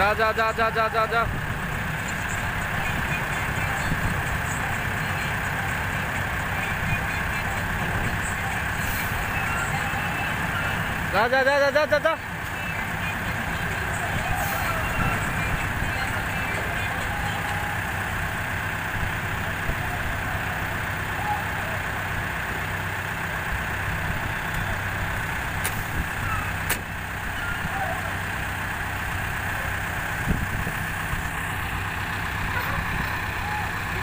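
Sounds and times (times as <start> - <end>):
diesel crane engines running: 0.0 - 34.0.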